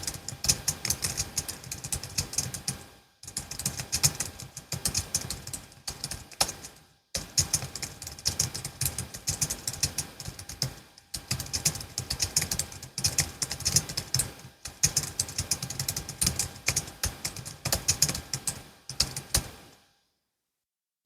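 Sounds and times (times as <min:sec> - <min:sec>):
fast keyboard typing: 0:00.0 - 0:19.6.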